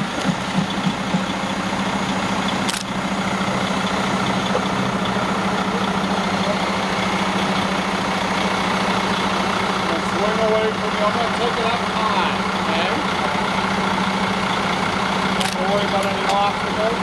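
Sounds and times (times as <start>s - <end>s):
construction machine engine running: 0.0s - 17.0s.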